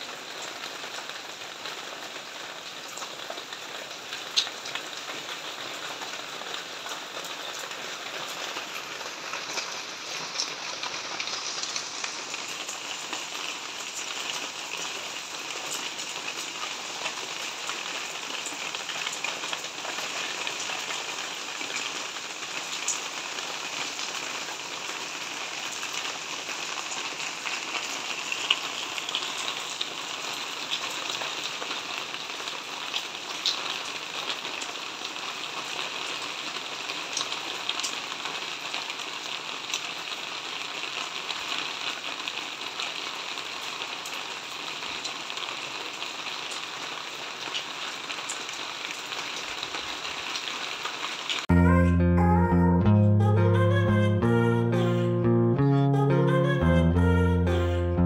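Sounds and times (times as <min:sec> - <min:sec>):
heavy rain: 0:00.0 - 0:51.7.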